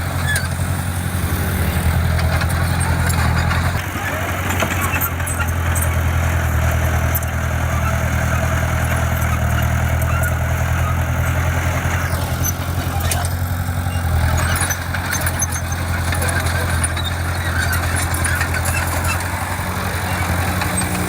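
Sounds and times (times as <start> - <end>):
heavy diesel engine humming: 0.0 - 21.0.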